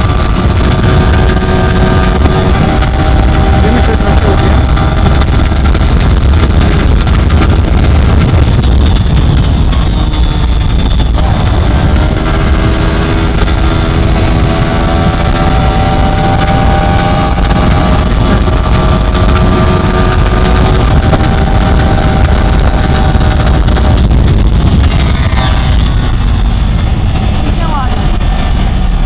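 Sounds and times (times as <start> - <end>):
motorcycle engine at high speed: 0.0 - 29.0
wind rumble on microphone: 0.0 - 29.0.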